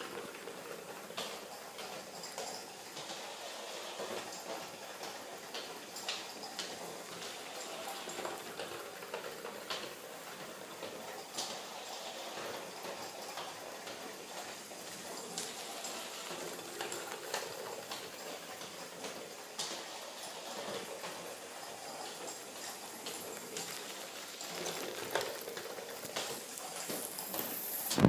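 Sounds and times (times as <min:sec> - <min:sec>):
wheels clicking over track joints: 0:00.0 - 0:28.0
steam locomotive hissing: 0:02.9 - 0:09.2, 0:11.2 - 0:28.0.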